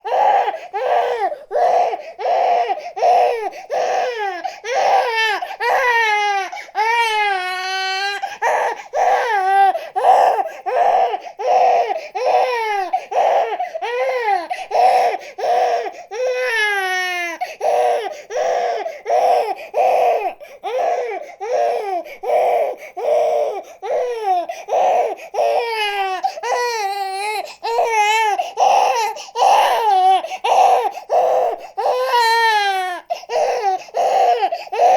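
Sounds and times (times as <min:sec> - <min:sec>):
baby crying: 0:00.0 - 0:34.9.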